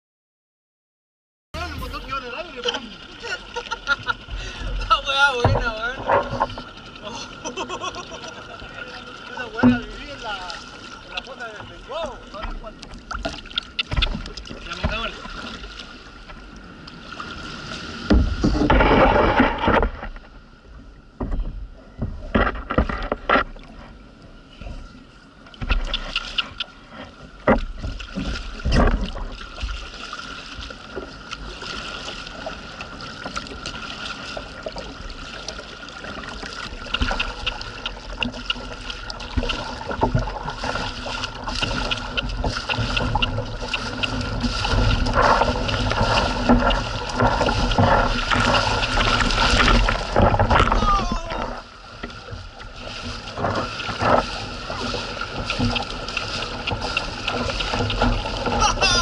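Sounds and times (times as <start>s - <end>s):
paddle splashing in water: 1.6s - 59.0s
water sloshing around hull: 1.6s - 59.0s.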